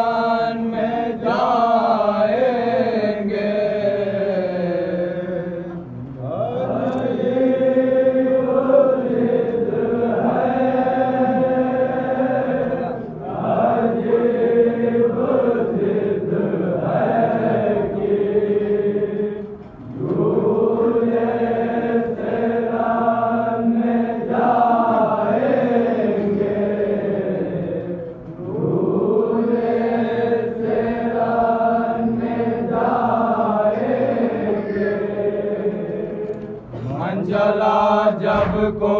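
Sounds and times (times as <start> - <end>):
person chanting a mourning lament: 0.0 - 19.4, 20.2 - 38.9.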